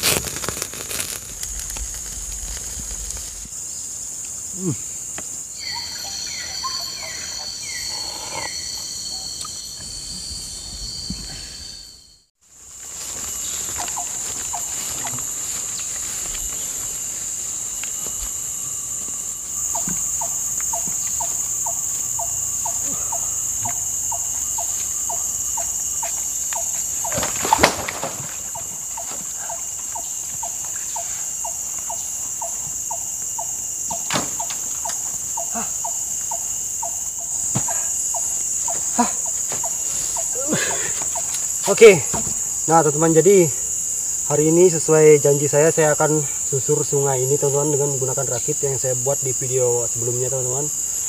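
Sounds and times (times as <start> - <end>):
chorus of forest insects: 0.0 - 51.0.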